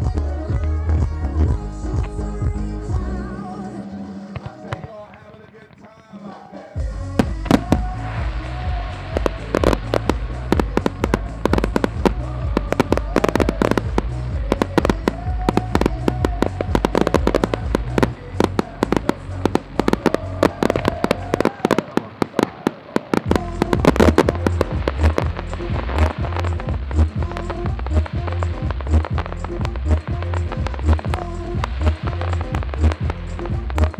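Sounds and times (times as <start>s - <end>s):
fireworks bangs and crackles: 4.2s - 6.2s, 7.0s - 33.9s.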